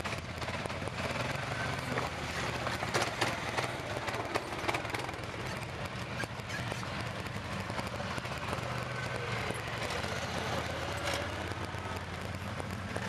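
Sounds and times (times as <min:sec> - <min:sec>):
quad bike engines passing: 0:00.0 - 0:13.0.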